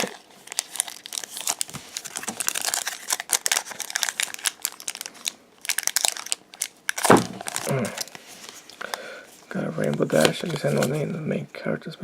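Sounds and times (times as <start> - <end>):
card and wrapper rustling: 0.0 - 11.1.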